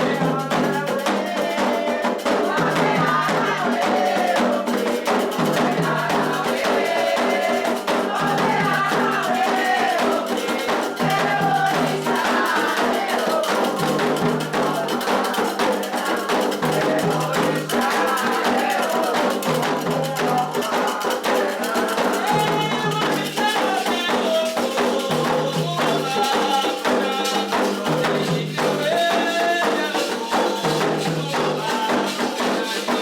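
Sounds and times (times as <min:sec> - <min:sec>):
hand drums and percussion: 0:00.0 - 0:33.0
people singing: 0:00.0 - 0:33.0.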